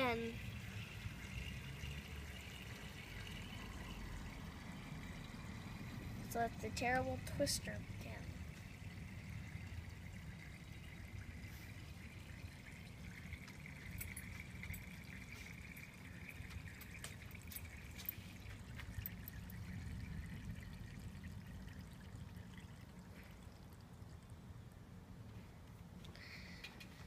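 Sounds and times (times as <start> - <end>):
liquid trickling between bottles: 0.0 - 27.0
low steady rumble: 0.0 - 27.0.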